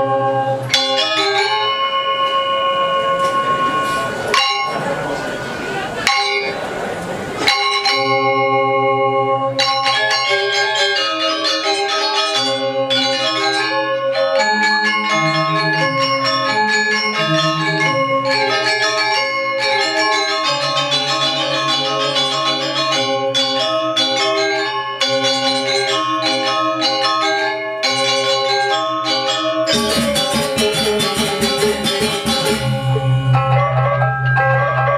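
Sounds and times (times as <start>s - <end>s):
gamelan ensemble playing: 0.0s - 34.9s
metallophones ringing interlocking melody: 0.0s - 34.9s.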